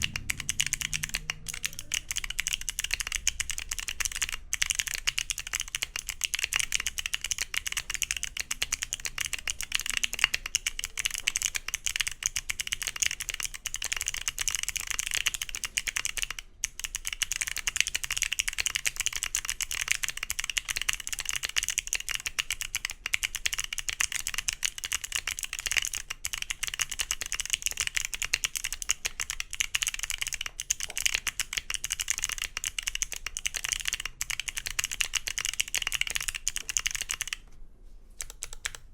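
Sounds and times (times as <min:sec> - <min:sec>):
fast typing on clicky keyboard: 0:00.0 - 0:37.5, 0:38.2 - 0:38.9.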